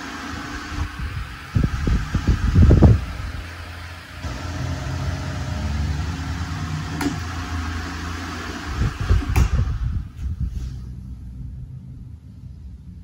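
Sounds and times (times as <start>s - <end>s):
desk fan humming: 0.0s - 11.6s.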